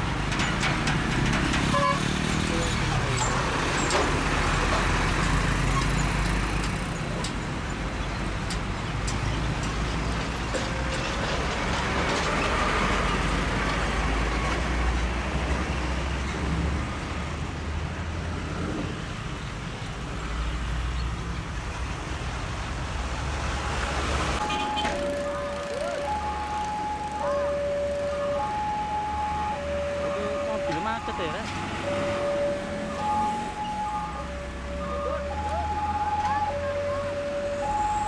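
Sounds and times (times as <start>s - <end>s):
heavy trucks and motorcycles passing: 0.0s - 38.0s.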